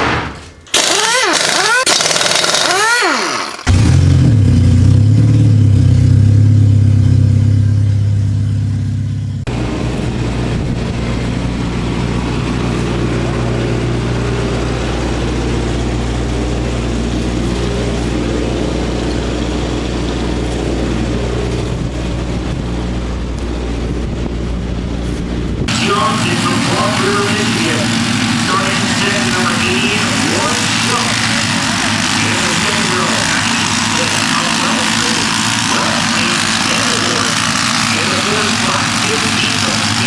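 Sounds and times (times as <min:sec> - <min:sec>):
small engines running: 0:00.7 - 0:40.0.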